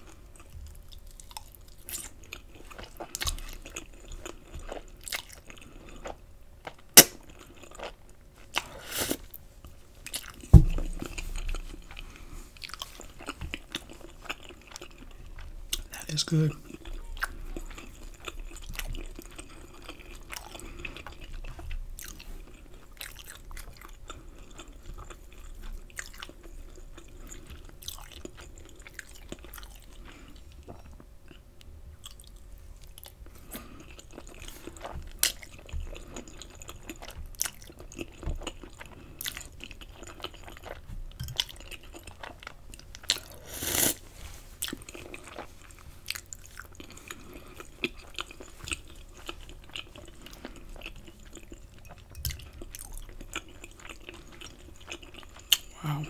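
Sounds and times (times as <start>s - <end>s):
close chewing with mouth clicks: 0.0s - 56.0s.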